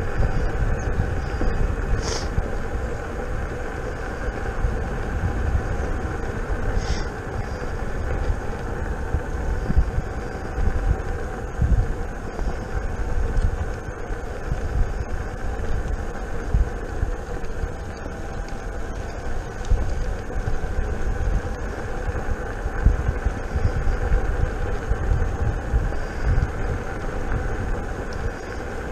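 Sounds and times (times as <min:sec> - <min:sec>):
electric motor whine: 0:00.0 - 0:28.9
tyre noise on asphalt: 0:00.0 - 0:28.9
wind buffeting microphone: 0:00.0 - 0:28.9.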